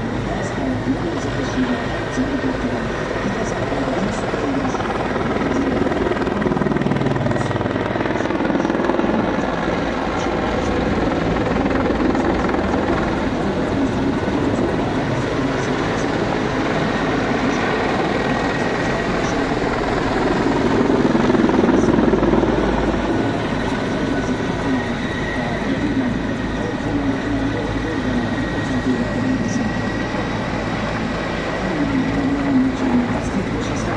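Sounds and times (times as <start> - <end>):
helicopter flying past: 0.0 - 33.9.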